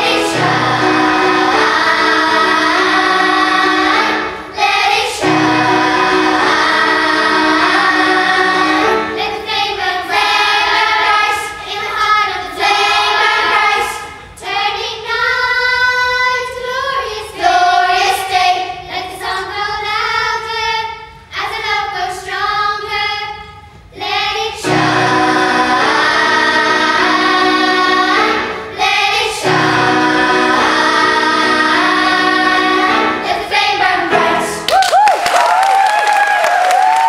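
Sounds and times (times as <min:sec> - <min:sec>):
children's choir singing: 0:00.0 - 0:23.4, 0:24.0 - 0:34.7.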